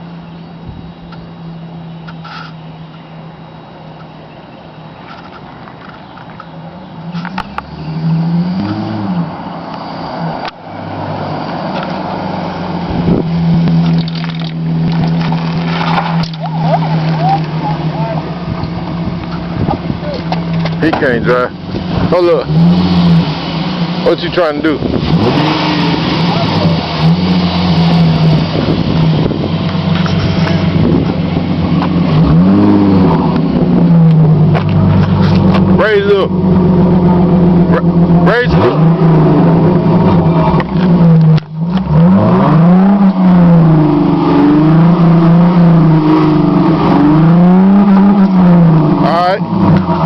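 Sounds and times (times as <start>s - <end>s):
car engine revving: 5.0s - 50.0s.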